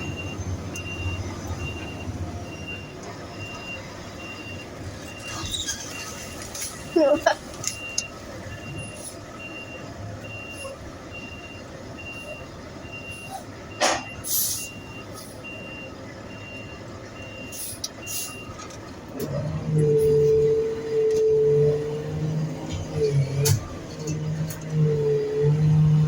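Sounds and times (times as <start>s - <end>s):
engine rumble: 0.0s - 26.0s
truck reversing alarm beeping: 0.0s - 26.0s.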